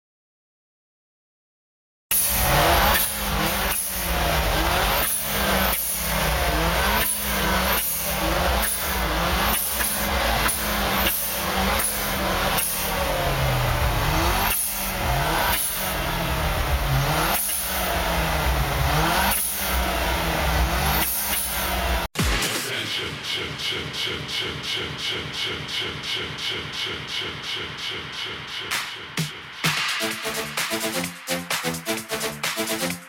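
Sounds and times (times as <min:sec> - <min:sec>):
car engine revving: 0:02.1 - 0:33.0.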